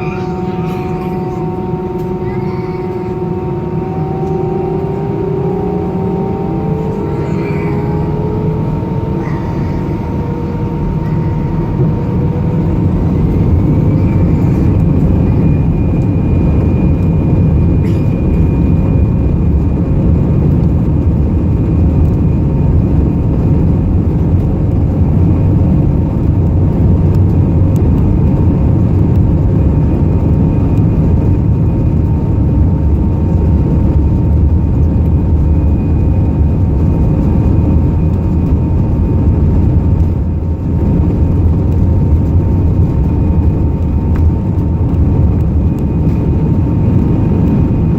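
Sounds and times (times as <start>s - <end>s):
jet engines from inside cabin: 0.0s - 47.9s.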